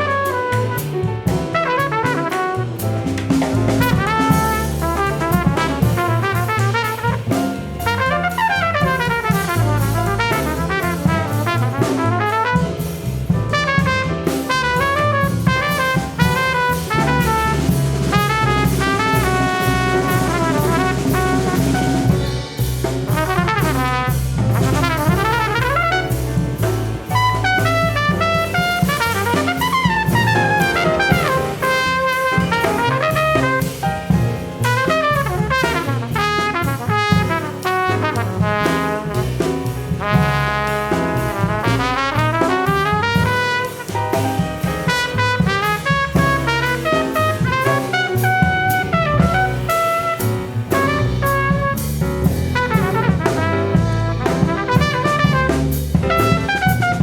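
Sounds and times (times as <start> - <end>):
drum kit and cymbals: 0.0 - 57.0
piano: 0.0 - 57.0
trumpet: 0.0 - 57.0
upright bass: 0.0 - 57.0.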